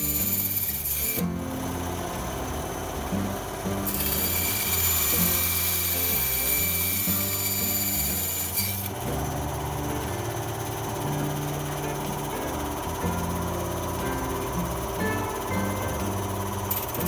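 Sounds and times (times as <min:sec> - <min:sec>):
background music: 0:00.0 - 0:17.0
band saw cutting: 0:00.0 - 0:17.0.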